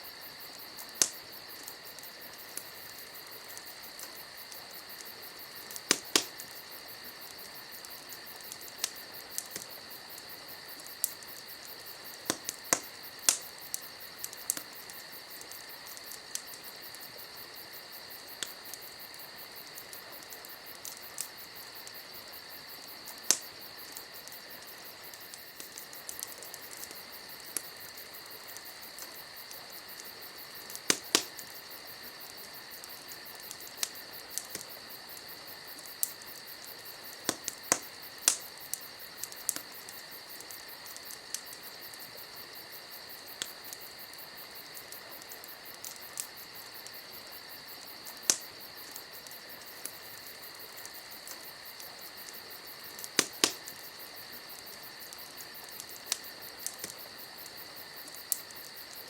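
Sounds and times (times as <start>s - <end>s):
campfire crackles and pops: 0.0s - 59.0s
crickets chirping: 0.0s - 59.0s.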